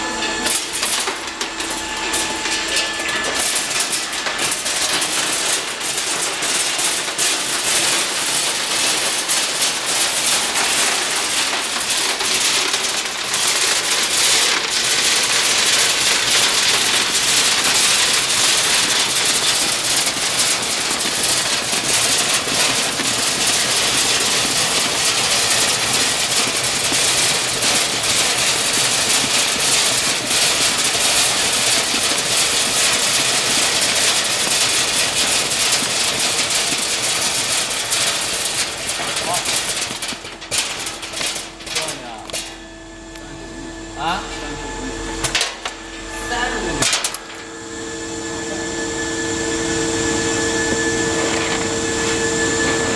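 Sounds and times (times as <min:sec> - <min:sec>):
kernels clattering through sorter: 0:00.0 - 0:42.6, 0:45.2 - 0:47.5.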